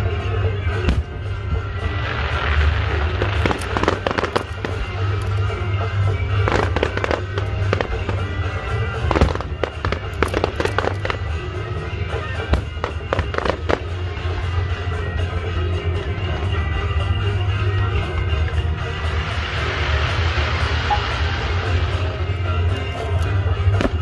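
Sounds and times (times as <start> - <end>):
music playing: 0.0 - 24.0
fireworks bangs: 0.7 - 14.8, 18.4 - 24.0.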